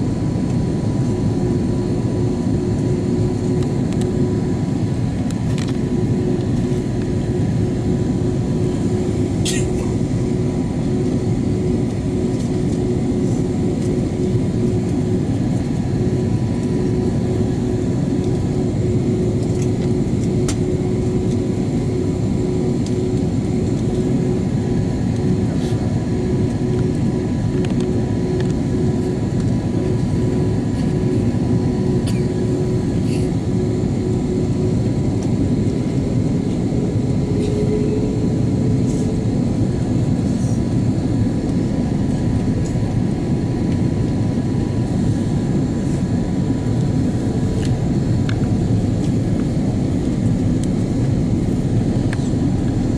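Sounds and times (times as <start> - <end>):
jet engines droning: 0.0 - 52.9
steady cabin hum: 0.2 - 52.9.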